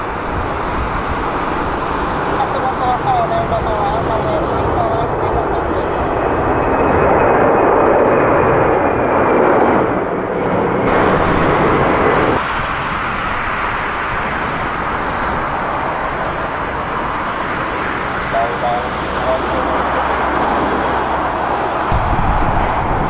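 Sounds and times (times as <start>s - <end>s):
business jet taking off: 0.0s - 23.0s
loud jet engines at takeoff: 0.0s - 23.0s.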